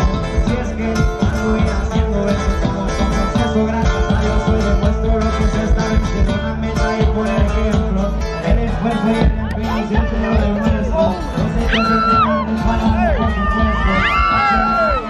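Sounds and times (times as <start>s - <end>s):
live band over loudspeakers: 0.0s - 15.0s
plucked guitars: 0.0s - 15.0s
steady bass line: 0.0s - 15.0s.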